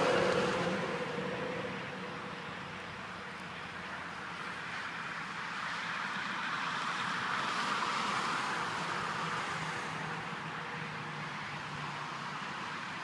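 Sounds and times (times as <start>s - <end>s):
rushing vehicle noise: 0.0s - 13.0s.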